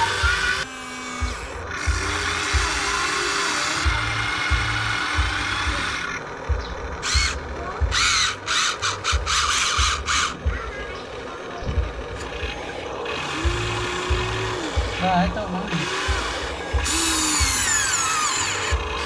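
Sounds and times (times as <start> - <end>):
electric gear motors whining: 0.0 - 19.0.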